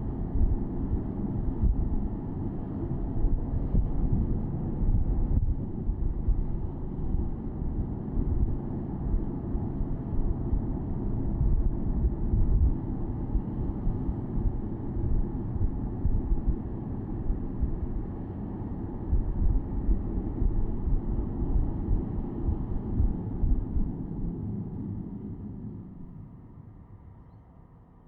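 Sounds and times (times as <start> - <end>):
wind buffeting microphone: 0.0 - 26.2
car engine low rumble: 0.0 - 28.0.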